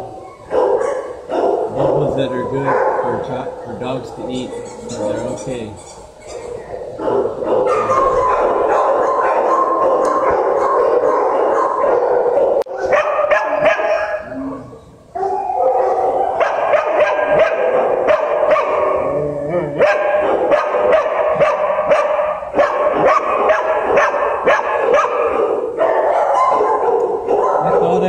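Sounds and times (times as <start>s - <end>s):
dogs howling: 0.0s - 28.0s
many dogs barking: 0.0s - 28.0s.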